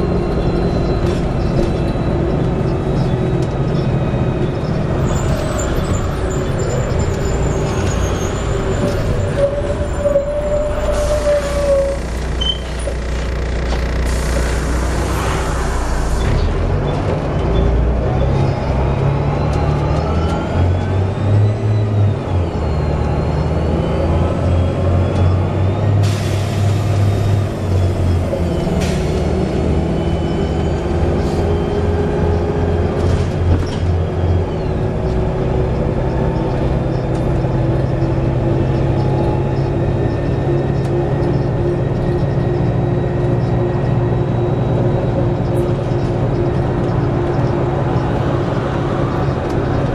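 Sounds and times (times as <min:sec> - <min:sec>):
bus engine droning: 0:00.0 - 0:49.9.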